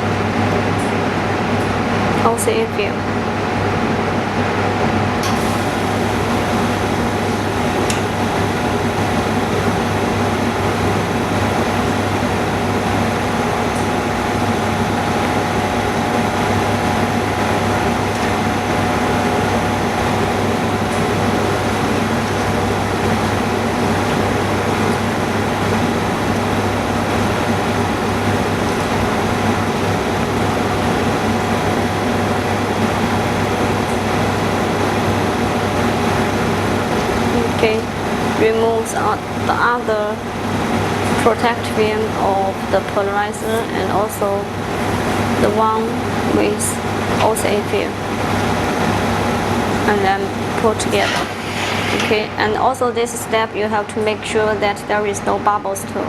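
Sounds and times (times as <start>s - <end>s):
machine hum and hiss: 0.0s - 54.2s.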